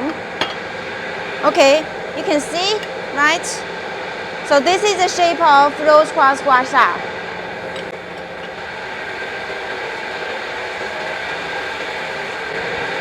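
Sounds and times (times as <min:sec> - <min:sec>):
ventilation unit humming: 0:00.0 - 0:13.0.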